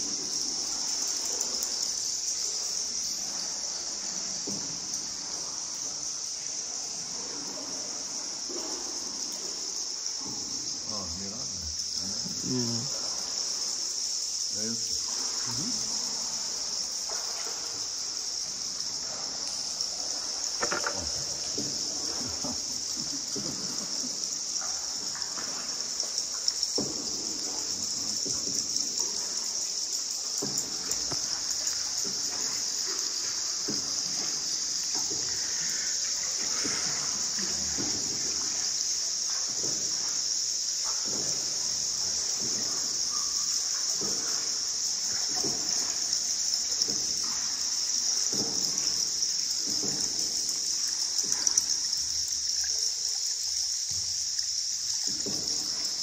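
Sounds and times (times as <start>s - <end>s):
high-pitched hiss: 0.0s - 56.0s
paddle strokes splashing water: 0.0s - 56.0s.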